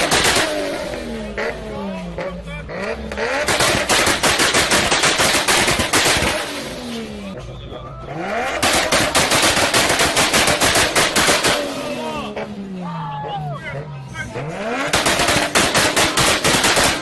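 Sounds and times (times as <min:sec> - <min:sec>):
rapid exhaust bangs: 0:00.0 - 0:07.4, 0:08.1 - 0:12.9, 0:13.8 - 0:17.0
car engine revving: 0:00.0 - 0:17.0.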